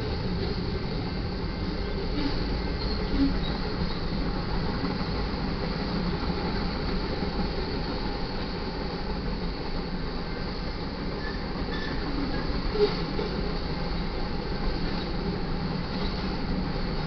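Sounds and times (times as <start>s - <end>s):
train clank: 0.0s - 8.6s, 10.2s - 17.0s
train wheels rumbling on rails: 0.0s - 17.0s.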